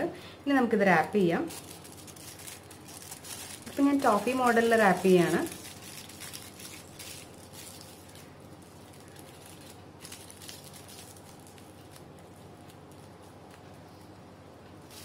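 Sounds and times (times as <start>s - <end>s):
steady low hum: 0.0s - 15.0s
wrapping paper crinkling: 1.0s - 14.2s.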